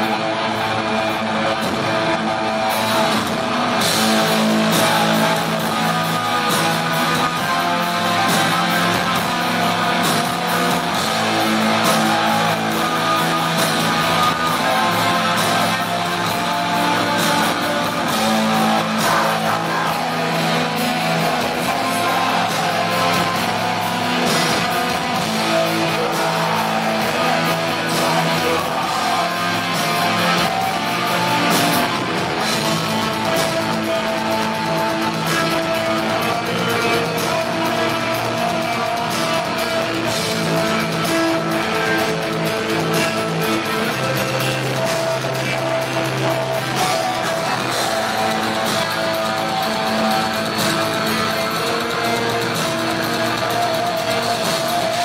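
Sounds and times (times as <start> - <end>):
distorted electric guitars: 0.0 - 55.0
drums and cymbals: 0.0 - 55.0.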